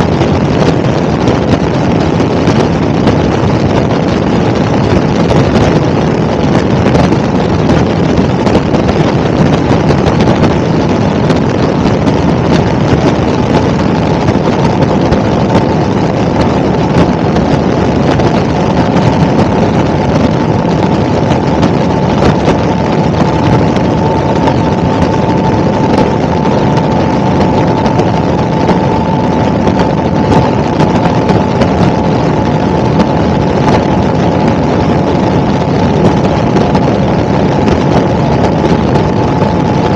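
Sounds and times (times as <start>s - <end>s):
faint steady whine: 0.0s - 39.9s
helicopter engine and rotor: 0.0s - 39.9s.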